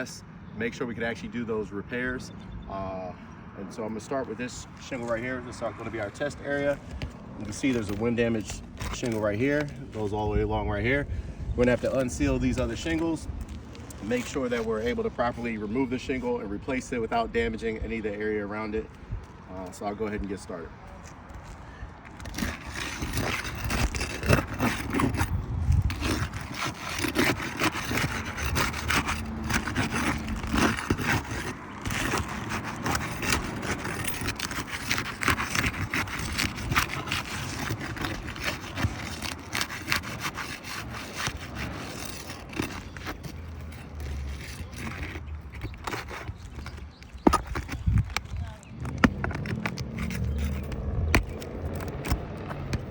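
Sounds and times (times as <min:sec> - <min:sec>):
roof shingles scraping and cracking: 0:04.0 - 0:17.1, 0:18.5 - 0:52.9.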